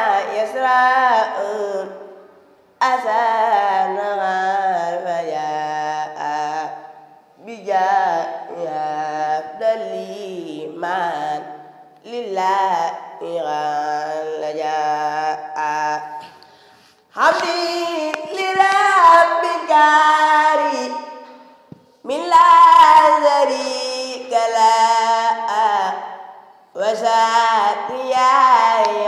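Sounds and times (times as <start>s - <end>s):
person chanting devotional song: 0.0s - 29.0s.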